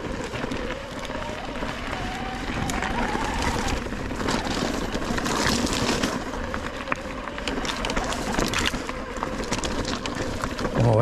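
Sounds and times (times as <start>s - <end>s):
bike clicking and rattling: 0.0s - 11.0s
bike tyres rolling on dirt trail: 0.0s - 11.0s.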